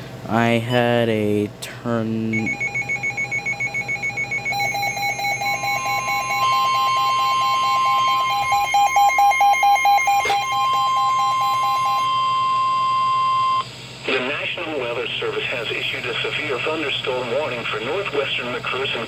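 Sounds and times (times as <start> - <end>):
steady warning alarm tone: 2.2 - 17.6
rapid pulsing beeps: 2.3 - 17.9.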